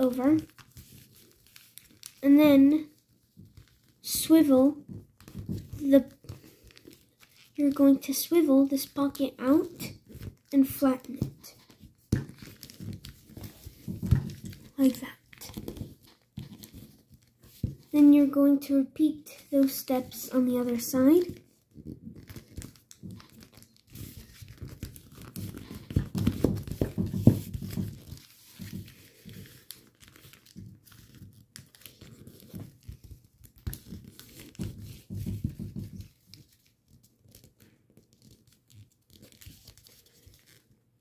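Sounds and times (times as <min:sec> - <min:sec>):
paper rustling and creasing: 0:00.0 - 0:40.8.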